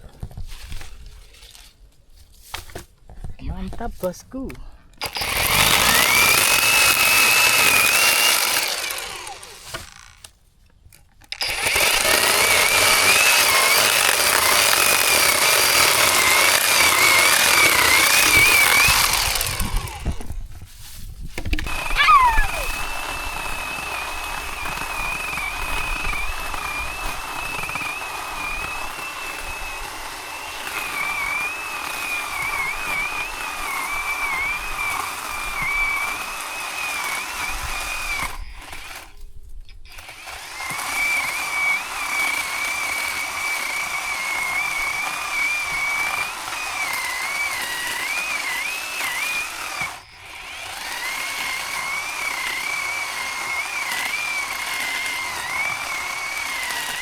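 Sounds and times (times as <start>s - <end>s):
electric chainsaw motor whine: 5.0s - 10.4s, 11.2s - 20.5s, 21.5s - 39.2s, 39.8s - 57.0s.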